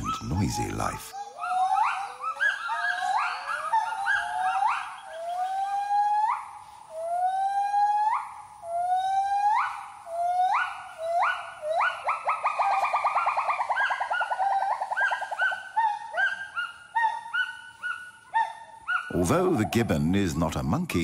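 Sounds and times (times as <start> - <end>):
gibbons whooping: 0.0 - 19.8.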